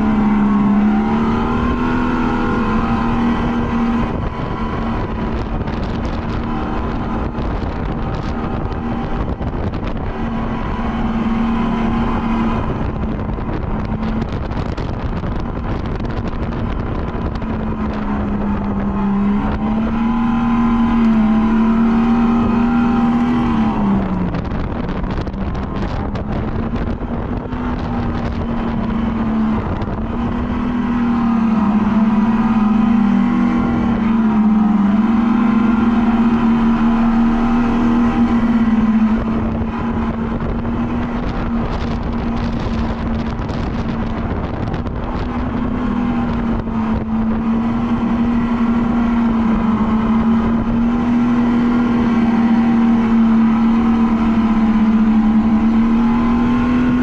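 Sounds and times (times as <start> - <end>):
electric motor whining: 0.0 - 57.0
steady rushing noise: 0.0 - 57.0.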